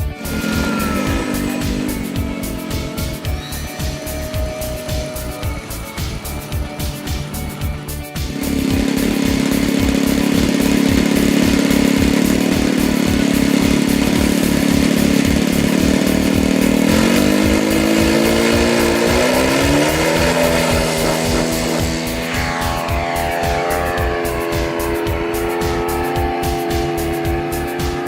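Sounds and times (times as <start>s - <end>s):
background music with beat: 0.0s - 28.0s
model airplane engine buzzing: 0.0s - 28.0s.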